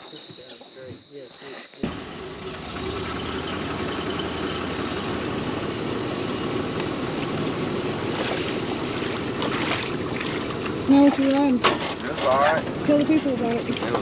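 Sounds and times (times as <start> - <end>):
small engine running steadily: 1.8 - 14.0.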